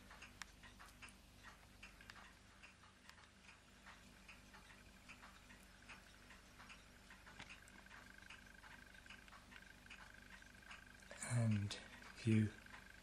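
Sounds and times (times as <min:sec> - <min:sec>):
faint light ticks: 0:00.0 - 0:13.0.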